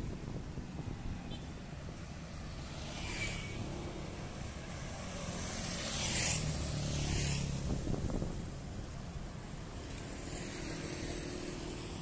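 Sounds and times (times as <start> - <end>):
low traffic rumble: 0.0 - 12.0
vehicles passing: 0.0 - 12.0.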